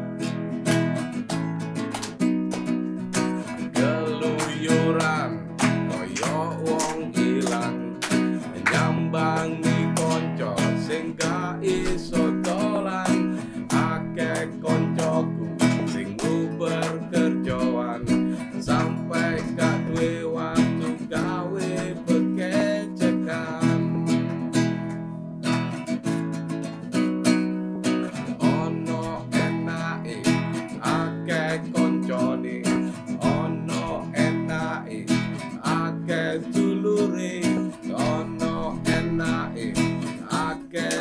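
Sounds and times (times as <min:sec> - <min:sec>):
acoustic guitar strummed: 0:00.0 - 0:41.0
man singing: 0:03.4 - 0:24.6, 0:27.7 - 0:41.0.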